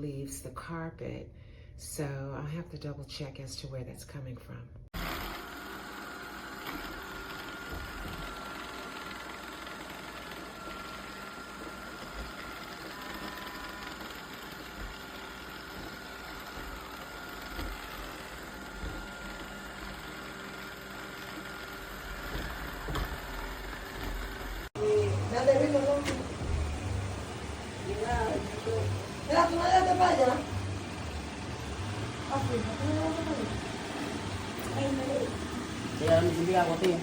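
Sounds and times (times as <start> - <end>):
robot vacuum motor hum: 5.0 - 37.0.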